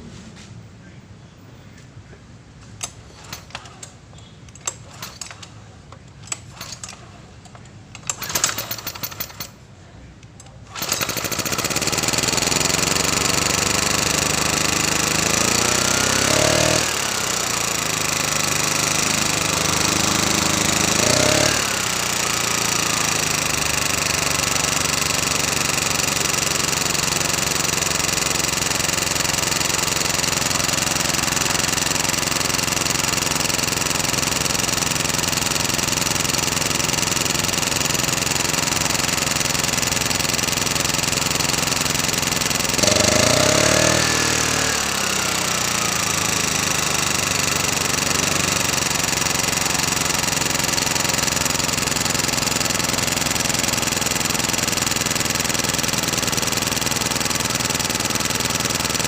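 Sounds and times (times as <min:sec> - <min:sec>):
portable generator engine running: 0:02.8 - 0:09.6, 0:10.3 - 0:59.0.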